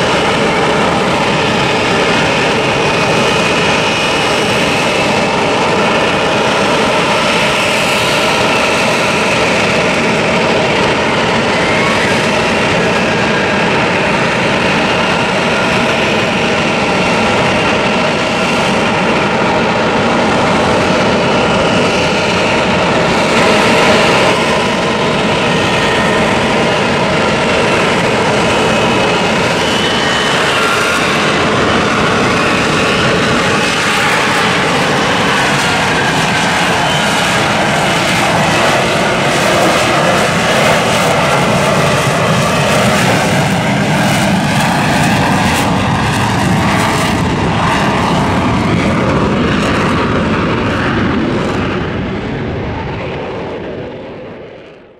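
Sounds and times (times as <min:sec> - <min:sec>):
jet engine roar: 0:00.0 - 0:54.9.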